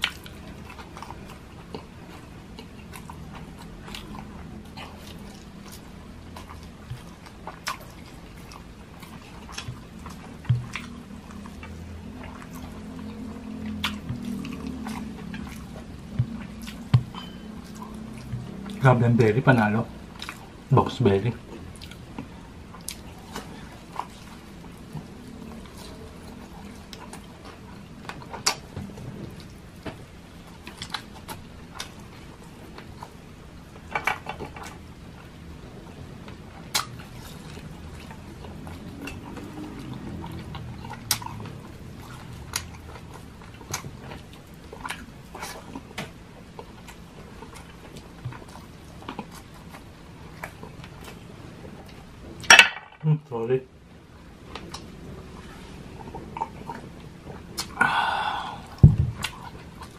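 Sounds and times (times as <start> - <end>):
close chewing and mouth sounds: 0.0 - 52.5, 53.4 - 59.9
low steady hum: 0.0 - 59.9.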